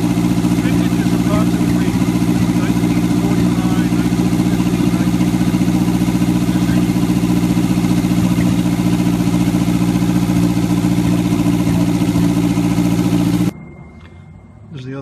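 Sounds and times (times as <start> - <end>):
car engine running: 0.0 - 13.5.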